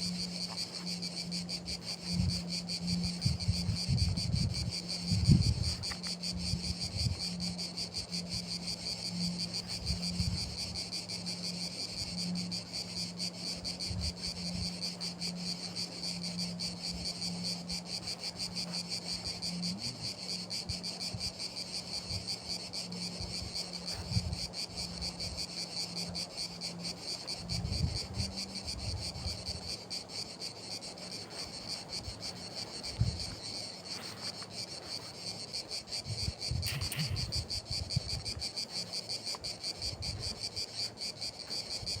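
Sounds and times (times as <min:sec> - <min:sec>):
crickets trilling: 0:00.0 - 0:42.0
steady low hum: 0:00.0 - 0:42.0.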